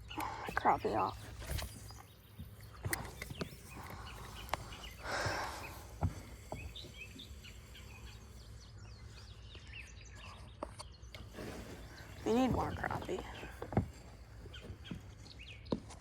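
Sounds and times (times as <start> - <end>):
faint bird chirps: 0.0 - 15.8.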